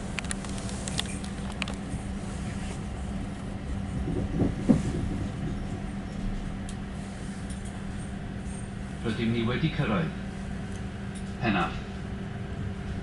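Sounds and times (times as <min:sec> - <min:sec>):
constant hum: 0:00.0 - 0:13.0
train rumble: 0:00.0 - 0:13.0.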